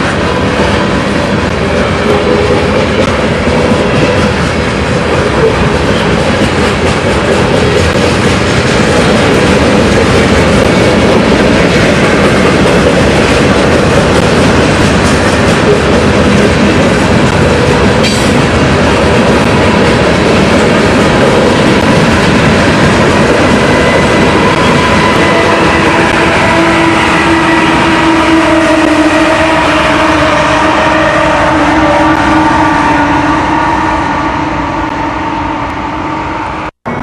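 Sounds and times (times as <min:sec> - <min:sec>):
train wheels rolling on track: 0:00.0 - 0:37.0.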